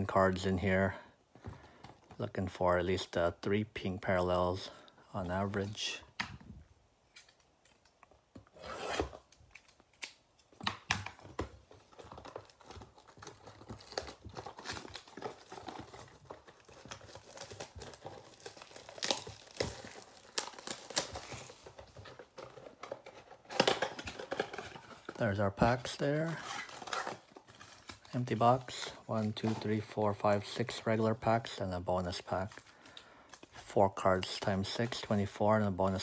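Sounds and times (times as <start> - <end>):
wrapping tearing and crinkling: 7.1 - 36.0.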